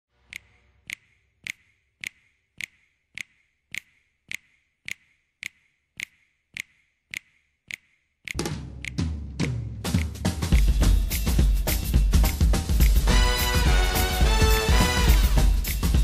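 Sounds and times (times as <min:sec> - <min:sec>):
sharp rhythmic clicks: 0:00.2 - 0:16.0.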